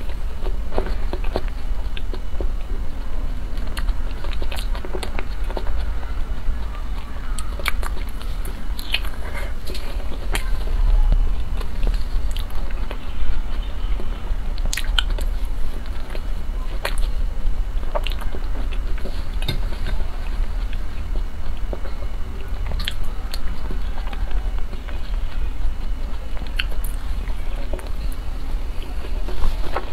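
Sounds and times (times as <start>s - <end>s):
chewing soft cake: 0.0s - 29.9s
steady low hum: 0.0s - 29.9s.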